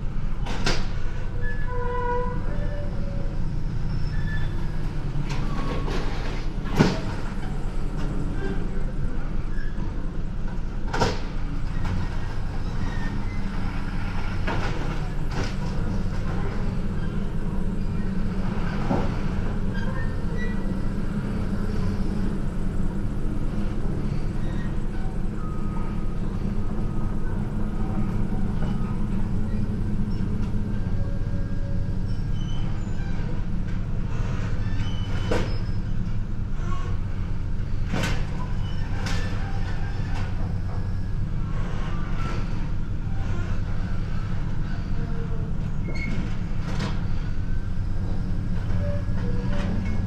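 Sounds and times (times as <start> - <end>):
heavy engine rumbling: 0.0 - 50.0.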